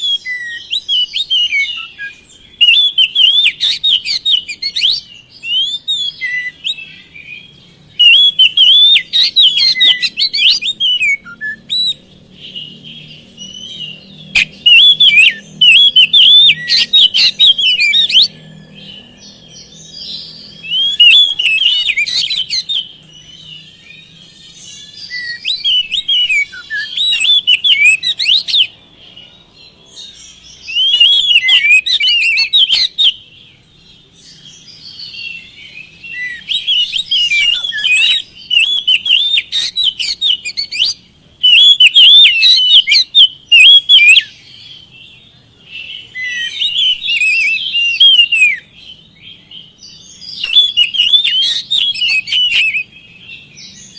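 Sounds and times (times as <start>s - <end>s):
magpie-robin singing whistled phrases: 0.0s - 53.9s.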